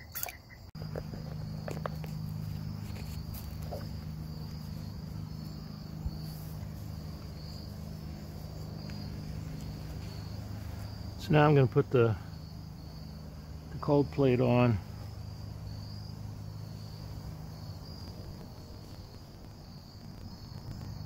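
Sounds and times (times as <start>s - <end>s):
crickets chirping: 0.0s - 21.0s
low steady hum: 0.8s - 21.0s.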